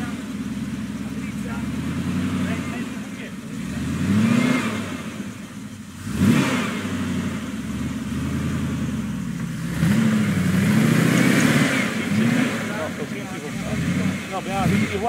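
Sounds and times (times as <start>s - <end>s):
off-road engine revving: 0.0s - 15.0s.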